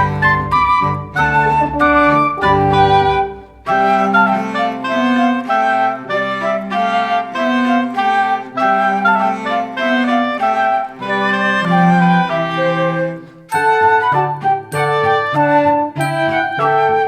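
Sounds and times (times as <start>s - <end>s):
woodwind-like synth melody: 0.0s - 17.0s.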